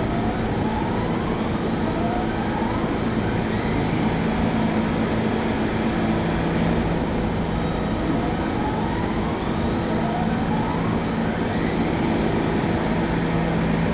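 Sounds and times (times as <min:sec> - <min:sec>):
subway train rumbling: 0:00.0 - 0:13.9.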